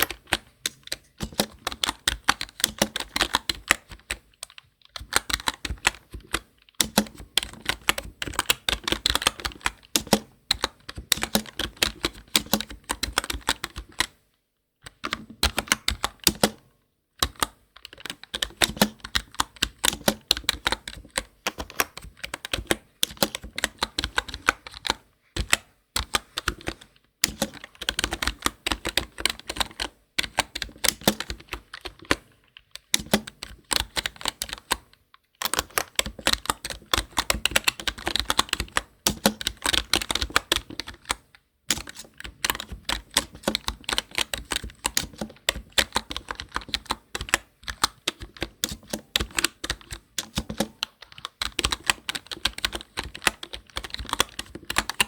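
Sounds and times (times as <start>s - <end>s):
computer keyboard typing: 0.0s - 55.0s.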